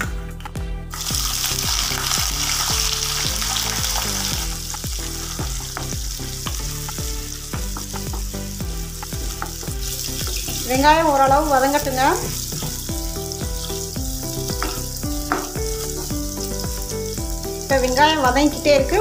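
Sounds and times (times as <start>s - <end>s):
background music: 0.0s - 19.0s
onion sizzling in hot oil: 0.9s - 19.0s.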